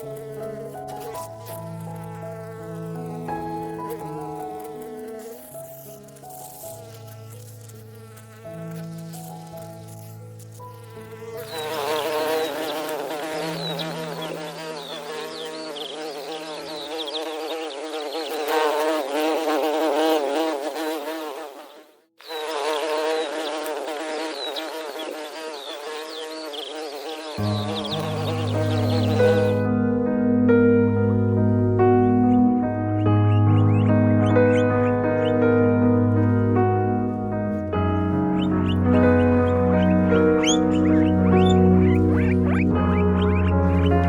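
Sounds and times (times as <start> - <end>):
insects buzzing: 0.0 - 44.0.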